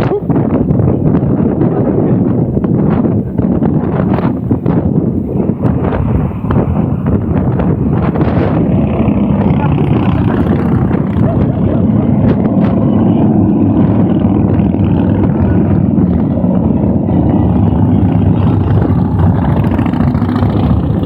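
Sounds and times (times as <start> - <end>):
motorcycles passing: 0.0 - 21.0.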